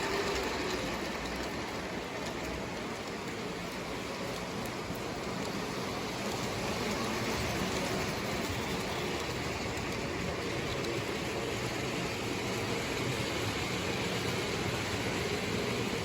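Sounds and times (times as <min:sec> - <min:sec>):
toy train rolling on track: 0:00.0 - 0:16.0.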